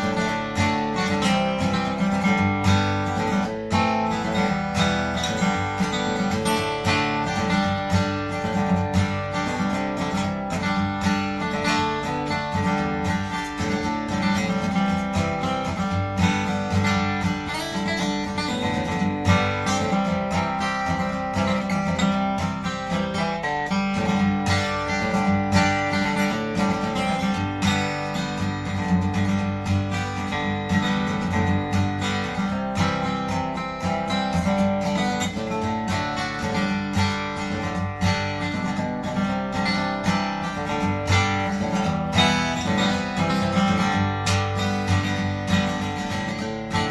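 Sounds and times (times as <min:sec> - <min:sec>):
acoustic guitar strummed and picked: 0:00.0 - 0:46.9.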